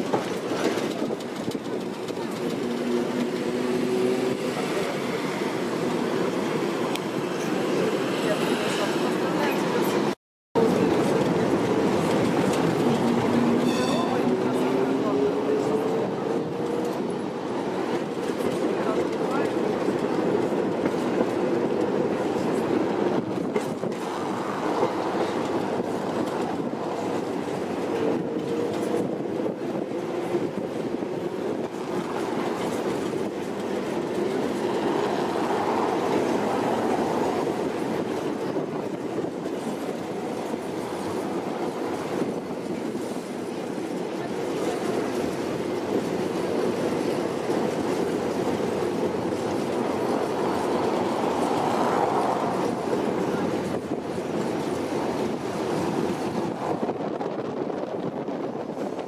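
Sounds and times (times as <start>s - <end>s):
clacks over rail joints: 0.0s - 7.6s, 9.0s - 59.0s
tram wheels rumbling on rails: 0.0s - 59.0s.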